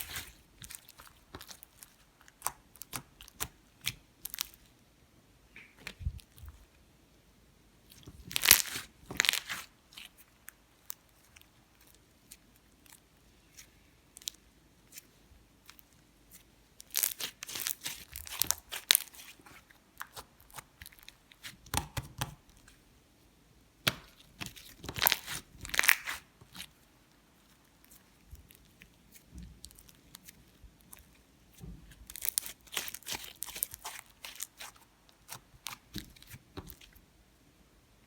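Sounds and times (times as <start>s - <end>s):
slime squished and stretched: 0.0s - 4.7s, 7.9s - 22.8s, 23.8s - 37.0s.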